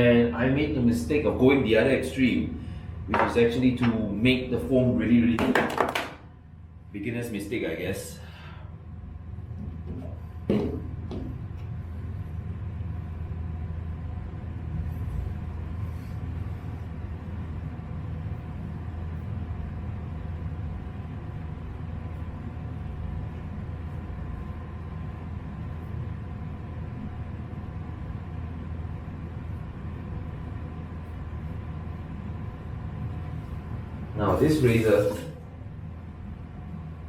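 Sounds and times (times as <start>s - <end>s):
low hum with faint whine: 0.0s - 37.0s.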